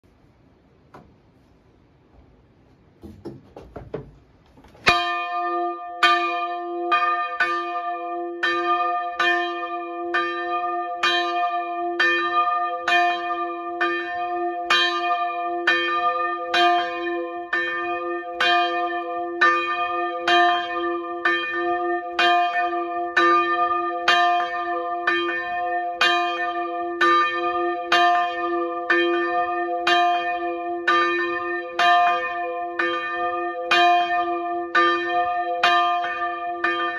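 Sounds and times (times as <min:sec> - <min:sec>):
church bell ringing: 0:04.8 - 0:36.9.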